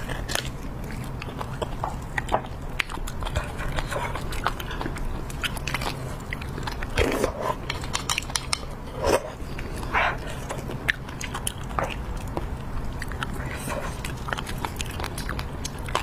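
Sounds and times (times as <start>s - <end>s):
steady low hum: 0.0s - 16.0s
wet sucking and chewing: 0.0s - 16.0s.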